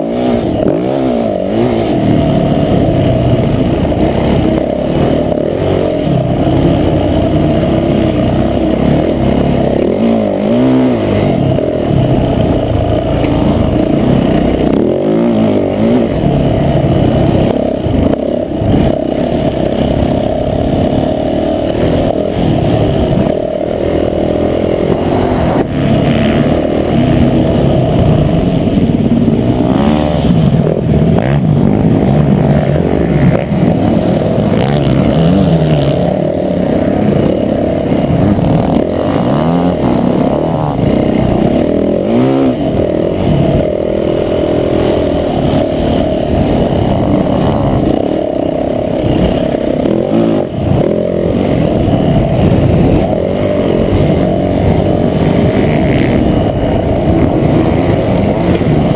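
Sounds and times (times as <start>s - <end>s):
motorbike engine revving: 0.0s - 58.9s.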